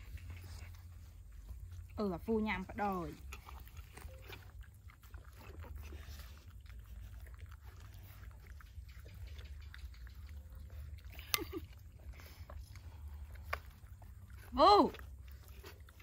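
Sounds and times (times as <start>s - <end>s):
dog lapping and chewing: 0.0s - 16.0s.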